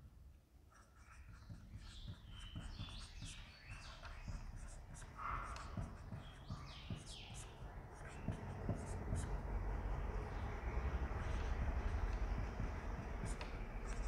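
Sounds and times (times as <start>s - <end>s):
marker squeaking on whiteboard: 0.6s - 9.4s, 10.3s - 14.0s.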